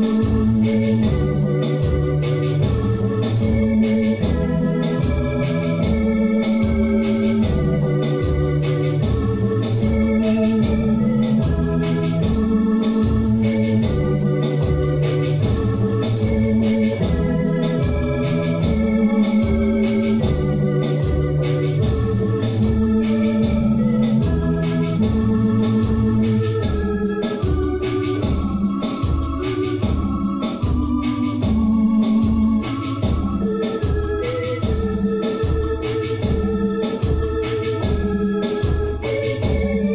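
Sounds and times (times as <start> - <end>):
electronic organ hymn with beat: 0.0 - 39.9.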